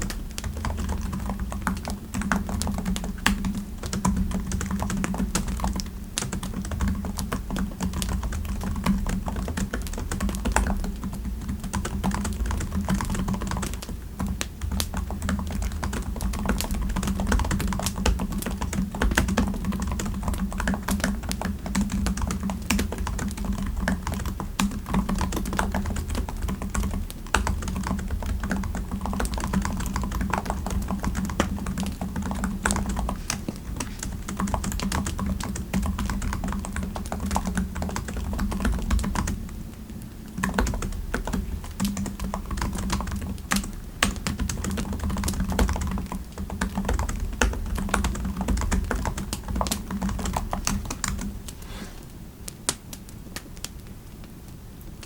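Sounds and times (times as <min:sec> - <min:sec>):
keyboard typing: 0:00.0 - 0:39.5, 0:40.3 - 0:51.7.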